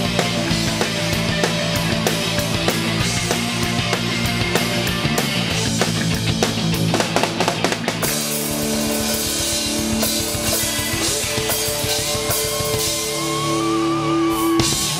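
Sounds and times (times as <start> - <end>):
electric guitar and bass chords: 0.0 - 14.9
rapid drum kit strokes: 0.0 - 14.9.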